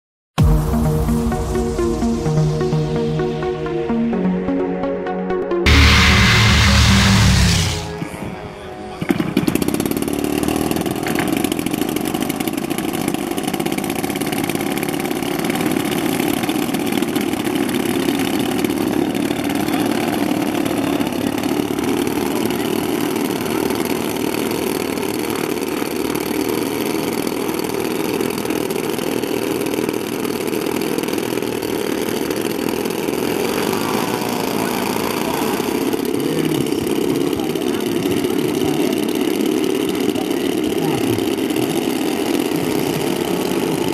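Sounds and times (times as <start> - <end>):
model aircraft engines idling: 5.7 - 43.9.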